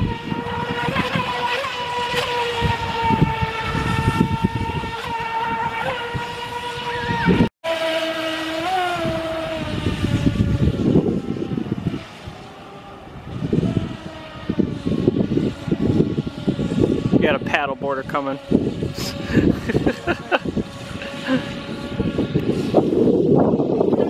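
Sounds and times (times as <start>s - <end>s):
electric motor whine: 0.0s - 24.0s
wind rumble on microphone: 0.0s - 24.0s.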